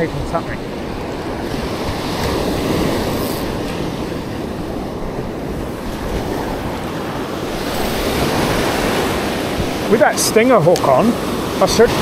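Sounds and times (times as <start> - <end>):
surf breaking on sandy beach: 0.0 - 12.0
wind on microphone: 0.0 - 12.0.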